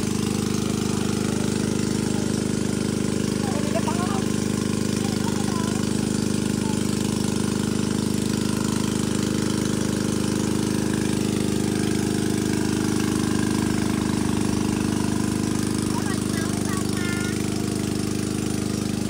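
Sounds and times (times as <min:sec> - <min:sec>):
small engine chugging: 0:00.0 - 0:19.0.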